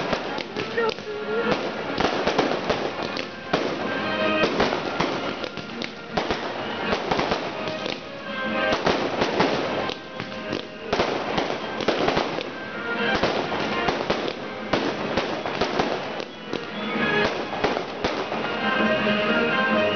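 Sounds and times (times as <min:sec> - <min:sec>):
firework shells bursting: 0:00.0 - 0:18.6
fireworks crackling and popping: 0:00.0 - 0:19.9.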